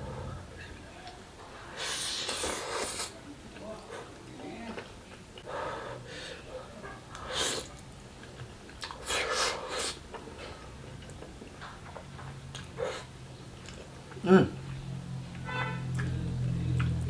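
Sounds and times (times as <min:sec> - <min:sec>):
chewing: 0:02.1 - 0:05.5, 0:06.6 - 0:17.0.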